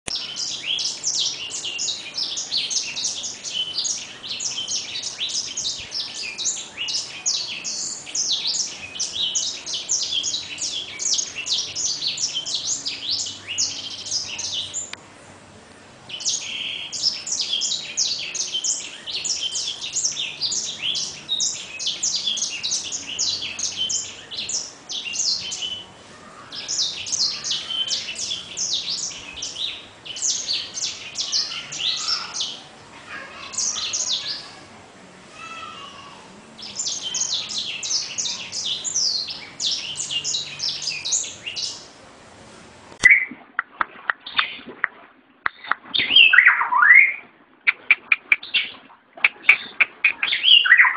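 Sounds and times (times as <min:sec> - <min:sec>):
songbird chirping: 0:00.0 - 0:42.0, 0:42.9 - 0:50.9.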